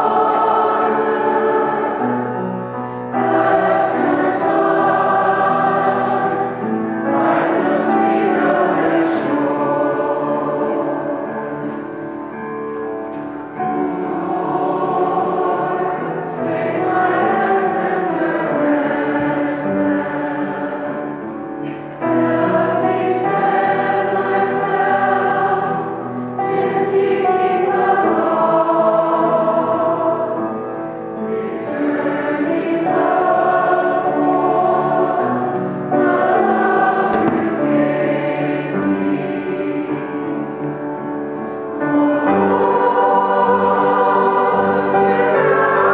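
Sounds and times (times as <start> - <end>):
choir and congregation singing hymn: 0.0 - 45.9.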